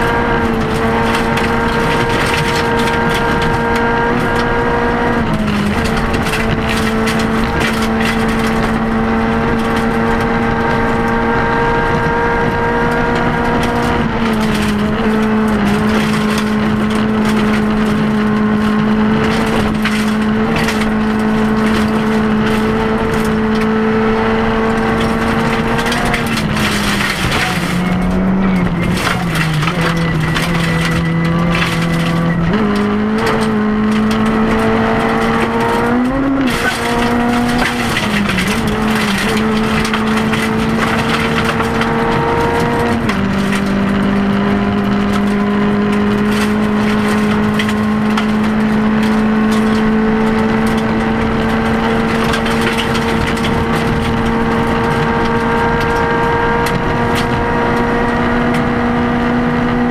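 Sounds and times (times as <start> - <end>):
gravel crunching under tyres: 0.0 - 59.9
rally car engine at high revs: 0.0 - 59.9.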